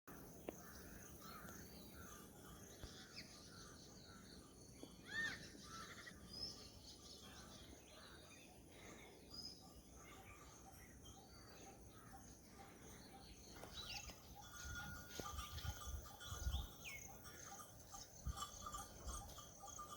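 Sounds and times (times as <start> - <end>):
birds chirping: 0.1 - 19.9.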